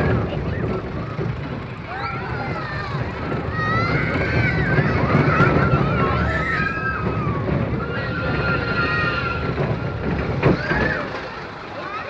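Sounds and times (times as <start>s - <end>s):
roller coaster rumble: 0.0s - 12.0s.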